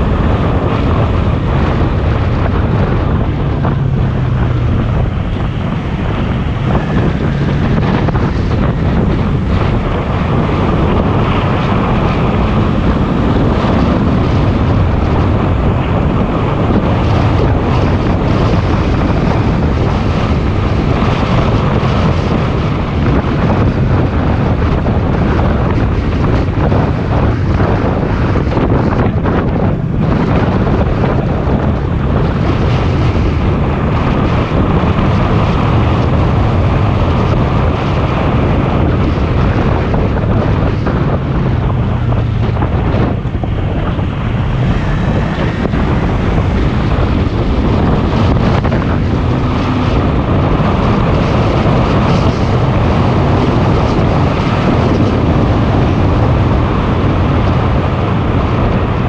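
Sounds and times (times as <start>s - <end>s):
motorcycle engine hum: 0.0s - 59.0s
wind buffeting microphone: 0.0s - 59.0s.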